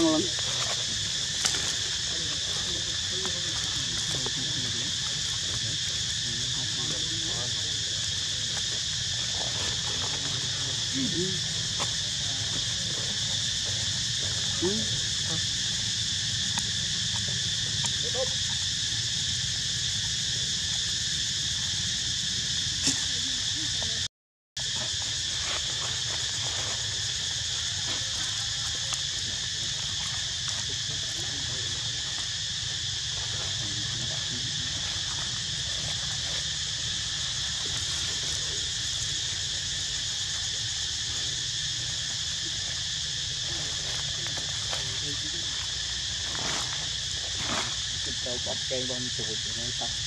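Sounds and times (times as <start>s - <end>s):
insects chirping: 0.0s - 50.0s.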